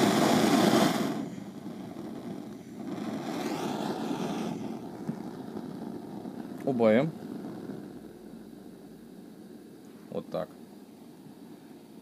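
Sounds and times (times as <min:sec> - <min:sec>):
torch burning with rushing hiss: 0:00.0 - 0:12.0.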